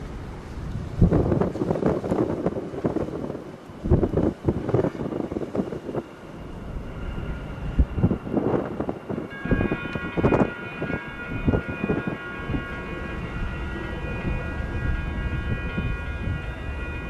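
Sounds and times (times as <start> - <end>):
freight train cars rumbling: 0.0 - 17.0.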